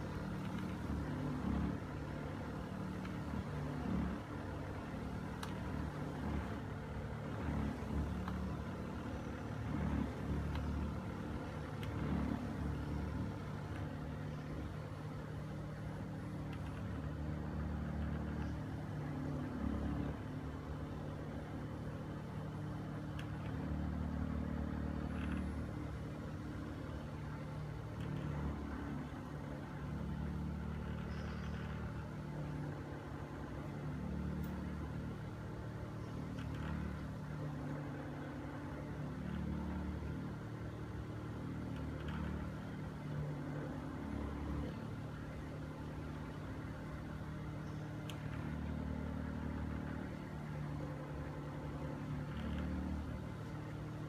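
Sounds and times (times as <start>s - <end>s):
massager mechanical hum: 0.0s - 54.0s
small clicks: 0.0s - 54.0s.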